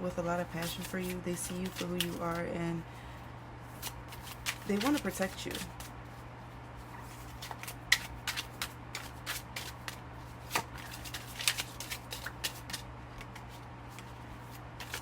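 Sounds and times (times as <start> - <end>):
cards being shuffled: 0.5 - 2.5, 3.7 - 6.0, 6.8 - 15.0.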